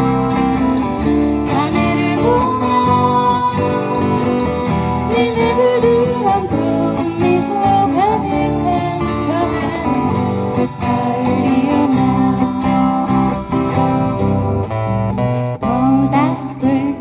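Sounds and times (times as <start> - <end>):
acoustic guitars strumming: 0.0 - 17.0
person singing: 1.1 - 14.3, 15.6 - 17.0.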